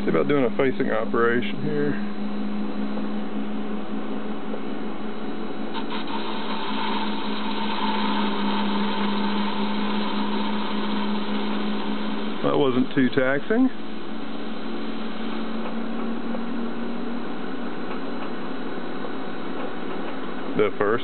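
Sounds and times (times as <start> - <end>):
lathe machine hum: 0.0 - 20.6.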